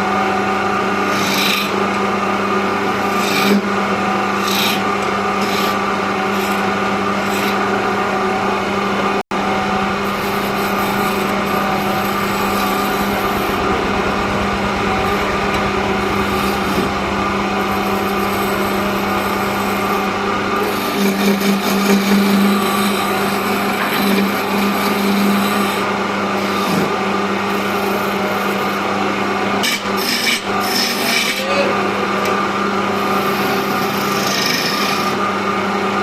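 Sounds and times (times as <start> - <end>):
tool scraping spinning wood: 0.0 - 35.4
lathe motor hum: 0.0 - 36.0.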